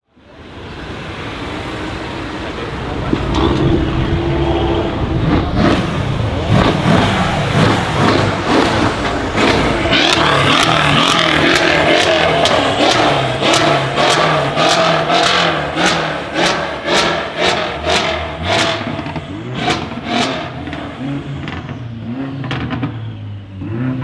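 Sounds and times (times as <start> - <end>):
car engine revving: 0.7 - 24.0.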